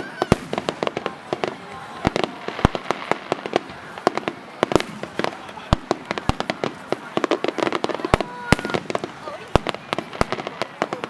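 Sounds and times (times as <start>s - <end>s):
deep fireworks boom: 0.0s - 11.0s
fireworks bangs and pops: 0.0s - 11.0s.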